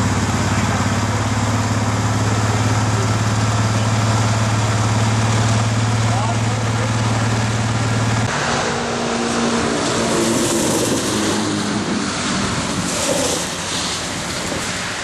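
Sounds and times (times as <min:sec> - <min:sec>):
engine idling: 0:00.0 - 0:15.0
vehicle passing on wet pavement: 0:00.0 - 0:15.0.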